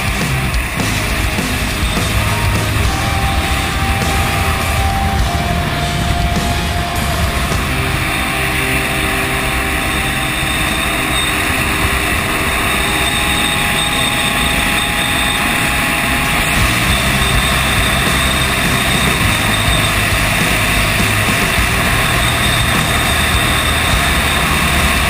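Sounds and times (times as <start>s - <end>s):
tyre and engine drone: 0.0s - 25.0s.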